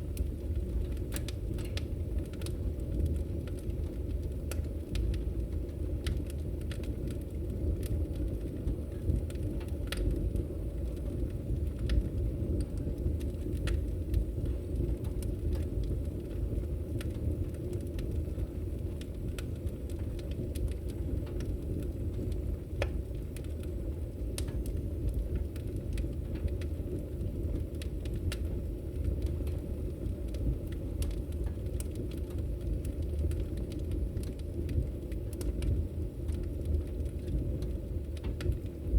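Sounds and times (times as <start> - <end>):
fire crackles and pops: 0.0 - 38.9
low rumble of flames: 0.0 - 38.9.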